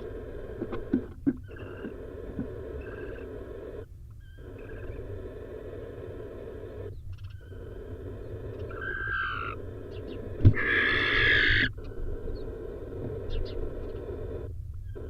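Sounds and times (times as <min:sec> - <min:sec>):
owl hissing screech: 0:01.4 - 0:15.0.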